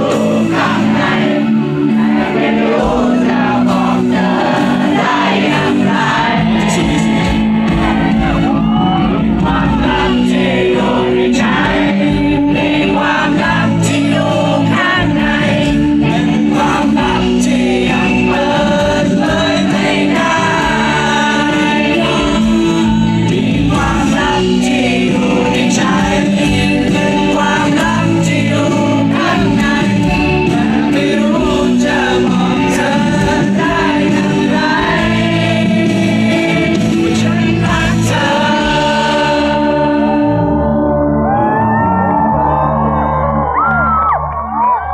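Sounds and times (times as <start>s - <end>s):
live pop-rock band: 0.0s - 44.9s
person singing: 0.0s - 44.9s.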